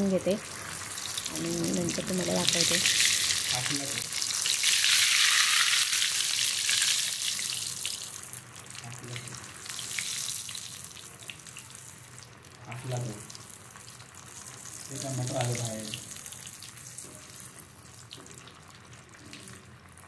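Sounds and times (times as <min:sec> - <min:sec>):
cutlets deep-frying in oil: 0:00.0 - 0:20.0.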